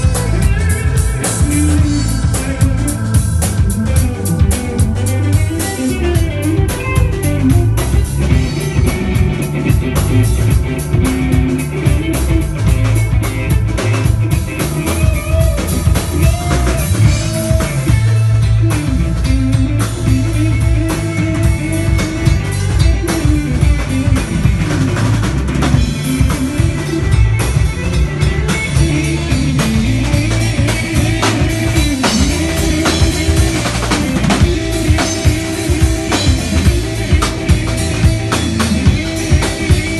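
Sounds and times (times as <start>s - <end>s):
bass: 0.0s - 39.9s
drum kit: 0.0s - 39.9s
guitar: 0.0s - 39.9s.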